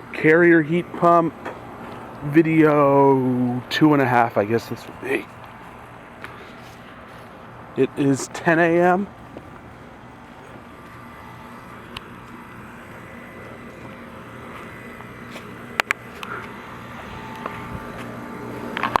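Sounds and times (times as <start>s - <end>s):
heat pump humming: 0.0s - 19.0s.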